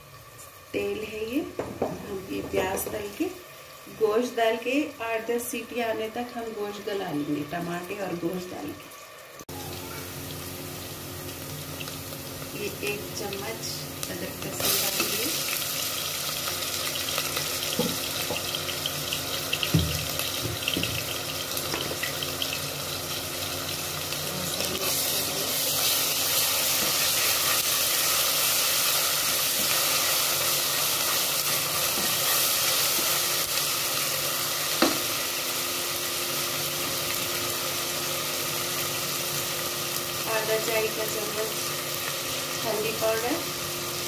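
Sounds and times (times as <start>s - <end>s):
onions sizzling in hot oil: 0.0s - 44.0s.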